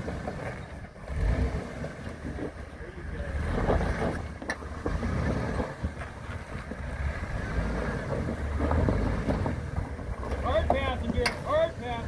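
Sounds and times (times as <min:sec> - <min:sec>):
engine running low and slow: 0:00.0 - 0:12.0.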